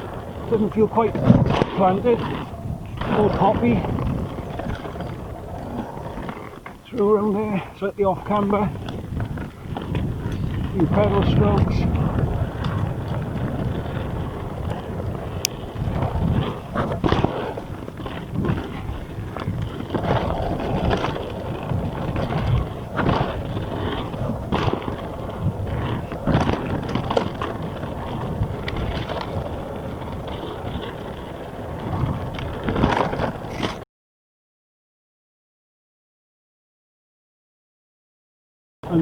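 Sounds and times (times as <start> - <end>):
bike knocking and rattling: 0.0 - 33.8
bike tyres rumbling on dirt: 0.0 - 33.8.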